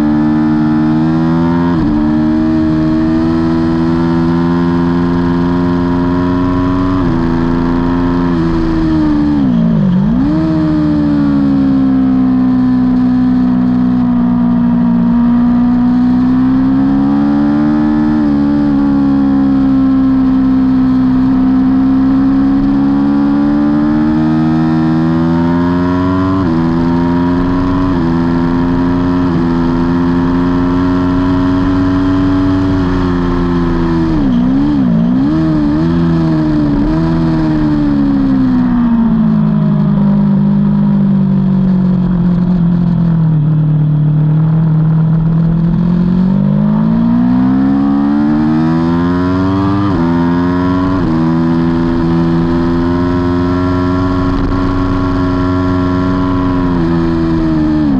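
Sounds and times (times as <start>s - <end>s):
motorcycle engine revving high: 0.0s - 57.9s.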